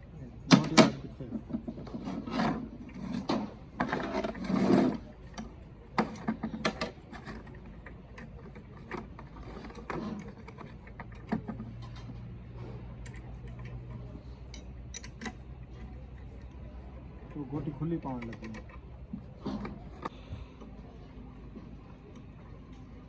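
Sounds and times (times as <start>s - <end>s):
faint steady hum: 0.0s - 23.0s
metal tools clicking and knocking: 0.5s - 20.1s.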